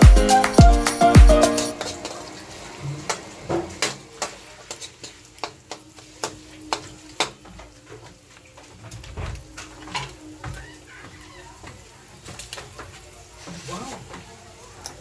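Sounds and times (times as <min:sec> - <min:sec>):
faint sizzle: 0:01.7 - 0:15.0.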